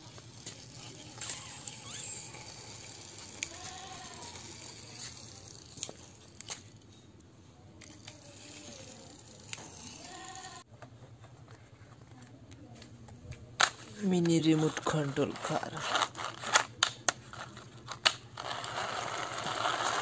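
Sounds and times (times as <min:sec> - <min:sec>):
toy car wheels rolling on concrete: 0:00.0 - 0:10.7, 0:13.6 - 0:20.0.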